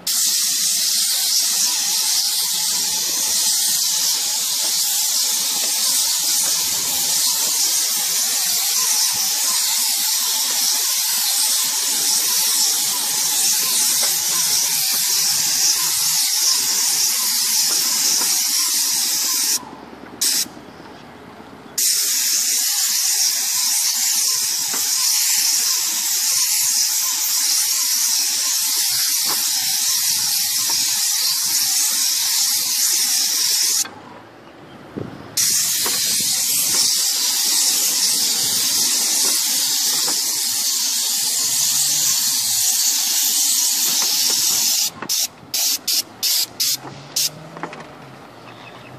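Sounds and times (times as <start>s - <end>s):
paint spray gun hissing: 0.0s - 19.6s, 20.2s - 20.5s, 21.8s - 33.9s, 35.4s - 47.4s.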